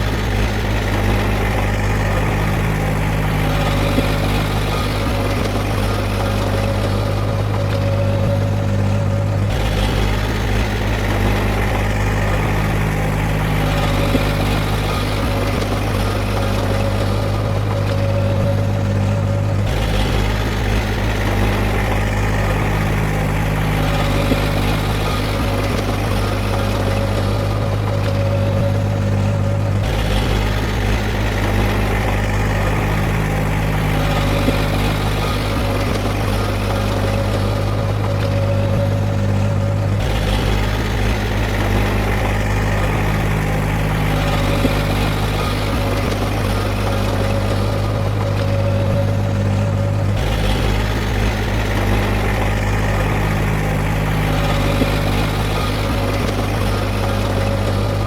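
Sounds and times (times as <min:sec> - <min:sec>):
diesel machine engine droning: 0:00.0 - 0:58.0.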